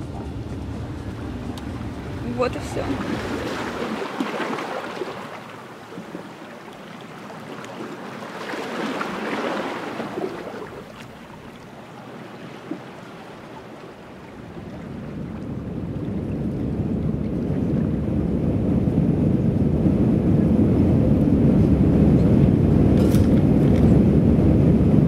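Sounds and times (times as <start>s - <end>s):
sea waves washing onto shore: 0.0s - 24.1s.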